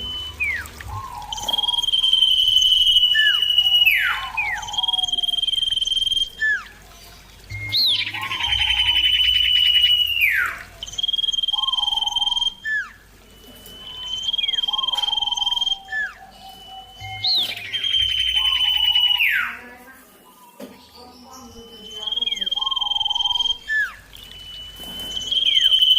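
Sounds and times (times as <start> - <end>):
bird singing whistled notes: 0.0 - 25.9.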